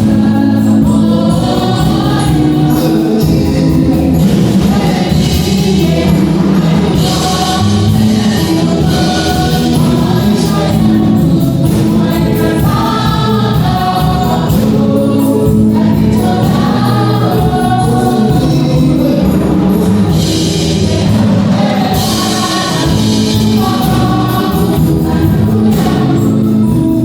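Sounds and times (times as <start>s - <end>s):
choir singing: 0.0s - 27.0s
musical accompaniment: 0.0s - 27.0s.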